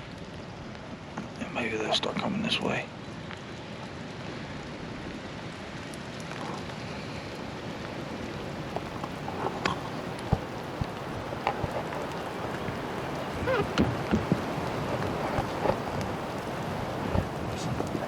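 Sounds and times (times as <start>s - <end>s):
raindrops landing close by: 0.0s - 18.0s
steady rain falling: 0.0s - 18.0s.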